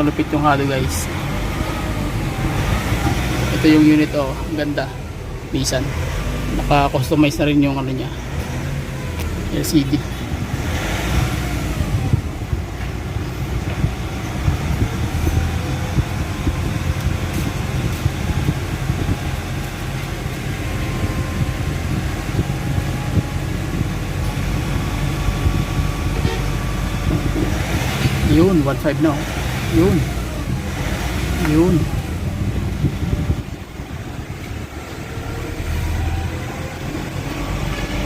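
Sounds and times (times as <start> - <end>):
engine and road rumble: 0.0 - 38.0.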